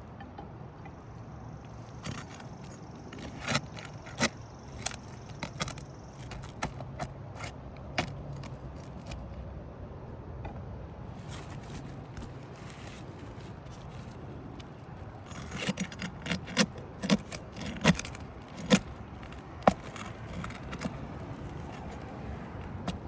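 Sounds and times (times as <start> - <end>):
scraping under shingles: 0.0 - 9.4, 11.0 - 23.0.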